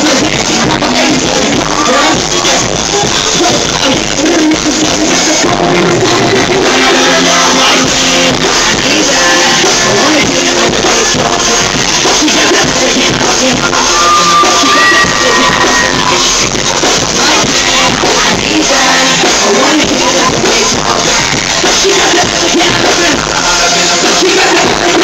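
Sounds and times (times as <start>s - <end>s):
man rapping over backing track: 0.0s - 25.0s.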